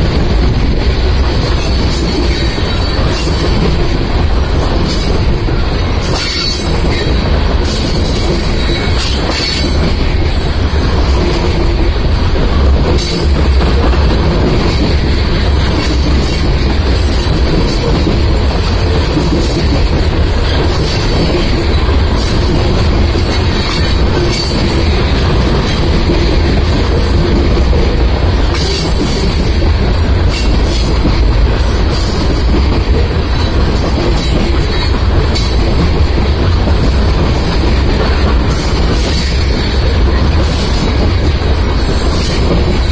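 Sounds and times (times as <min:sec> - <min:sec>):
steel wheels rumbling on rail: 0:00.0 - 0:42.9.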